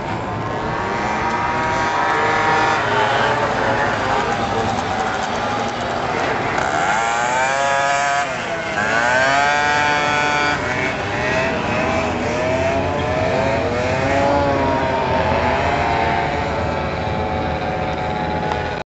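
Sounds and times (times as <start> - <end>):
scooter engine revving: 0.0 - 18.8.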